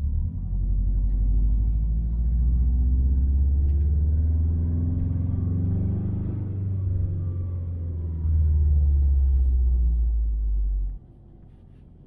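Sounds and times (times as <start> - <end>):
road and drivetrain rumble in car: 0.0 - 12.0.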